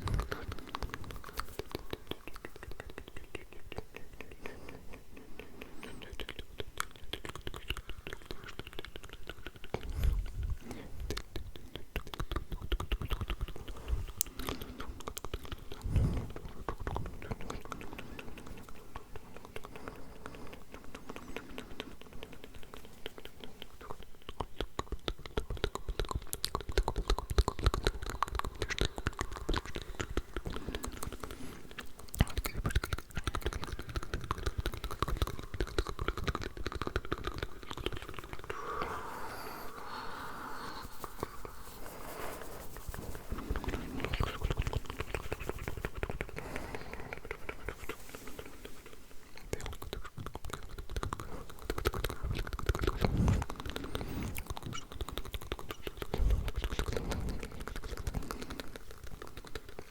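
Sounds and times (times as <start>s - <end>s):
wet mouth clicks and smacks: 0.0s - 59.9s.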